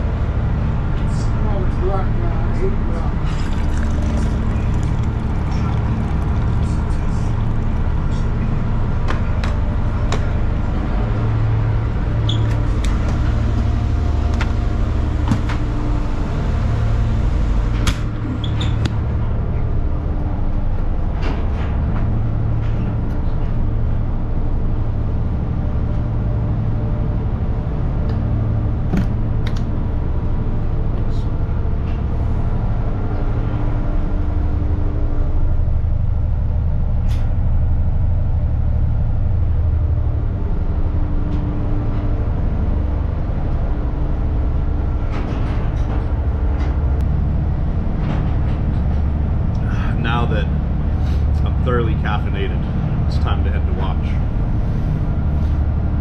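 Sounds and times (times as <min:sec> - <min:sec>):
low diesel engine drone: 0:00.0 - 0:56.0.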